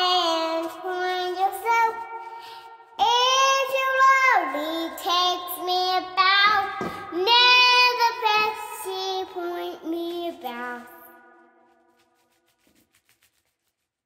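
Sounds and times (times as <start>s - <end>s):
girl singing: 0.0s - 11.5s.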